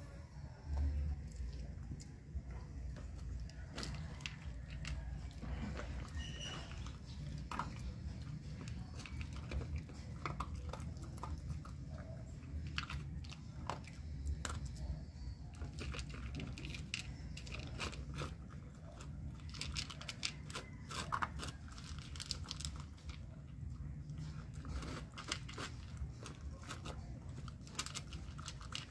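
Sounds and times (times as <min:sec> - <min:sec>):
dog crunching dry kibble: 0:00.6 - 0:28.9.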